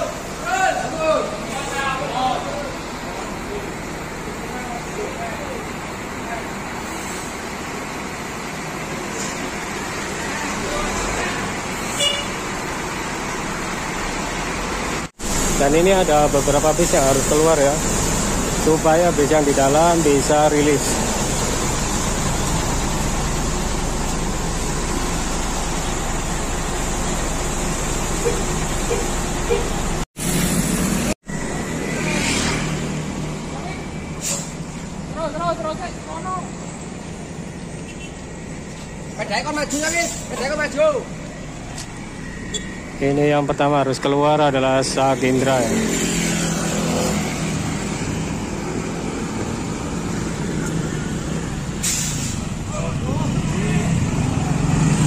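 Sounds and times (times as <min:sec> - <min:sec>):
bus diesel engines idling: 0:00.0 - 0:31.9, 0:32.9 - 0:45.7, 0:47.0 - 0:55.0.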